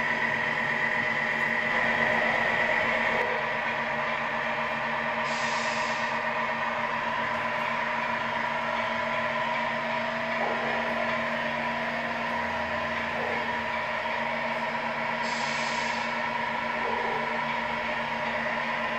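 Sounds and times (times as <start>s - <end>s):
simulated diesel truck engine: 0.0s - 18.9s.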